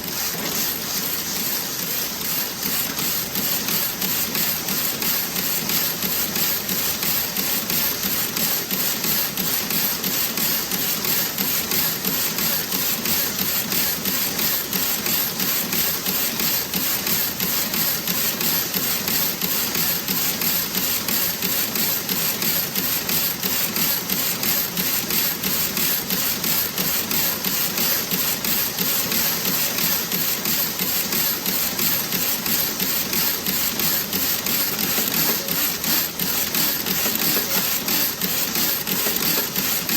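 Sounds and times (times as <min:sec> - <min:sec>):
knitting machine clattering: 0:00.1 - 0:39.9.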